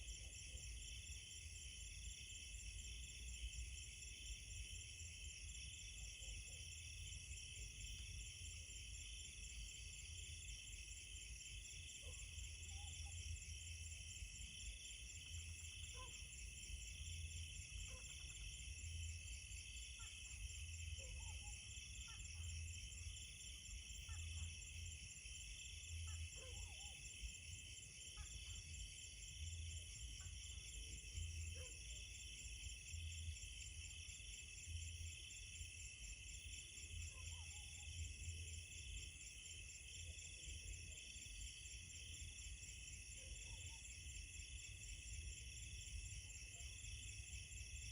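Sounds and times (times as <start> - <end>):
crickets and insects trilling: 0.0 - 47.9.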